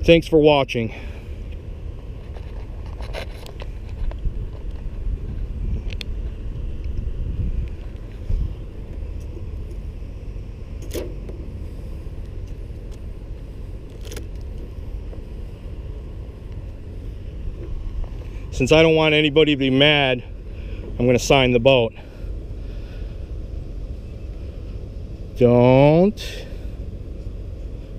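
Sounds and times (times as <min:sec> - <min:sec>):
low rumble: 0:00.9 - 0:27.9.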